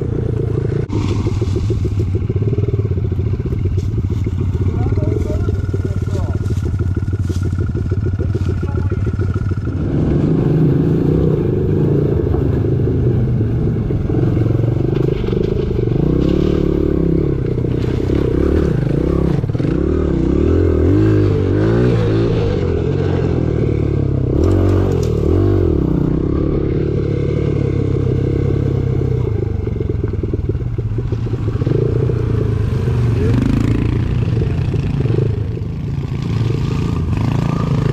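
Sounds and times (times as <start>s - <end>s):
dirt bike engine revving: 0.0s - 37.9s
engine clatter: 0.0s - 37.9s.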